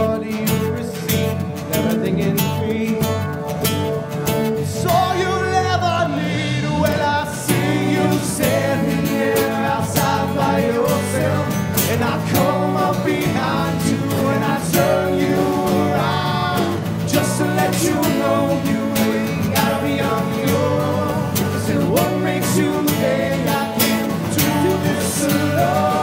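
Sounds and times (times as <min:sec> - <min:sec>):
electric bass: 0:00.0 - 0:26.0
person singing: 0:00.0 - 0:26.0
strummed acoustic guitars: 0:00.0 - 0:26.0.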